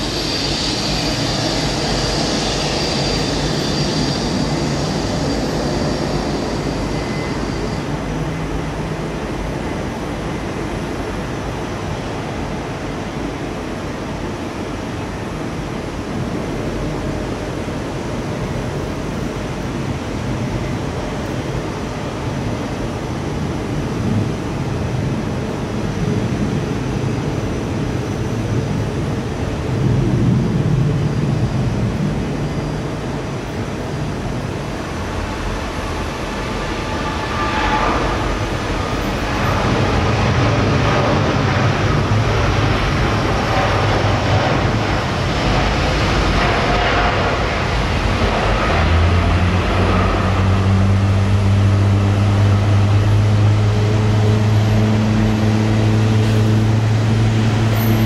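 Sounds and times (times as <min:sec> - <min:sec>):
jet engines roaring: 0:00.0 - 0:58.0
steady low hum: 0:00.0 - 0:58.0.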